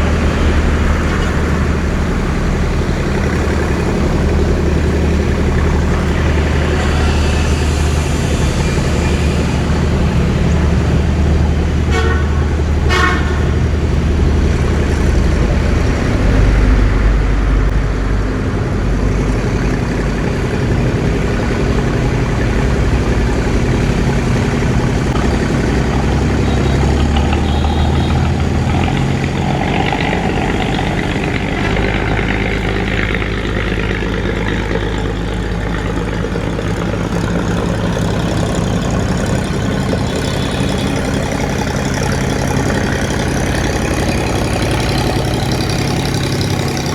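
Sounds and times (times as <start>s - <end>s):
boat engine droning: 0.0s - 46.9s.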